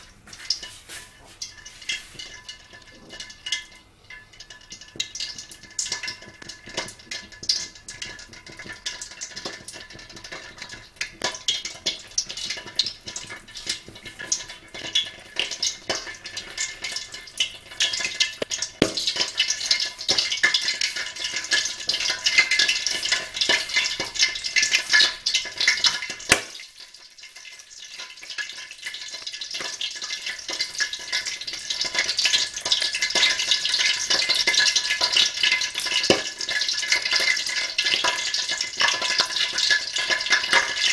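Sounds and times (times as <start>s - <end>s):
oil sizzling and popping in a wok: 0.0s - 40.9s.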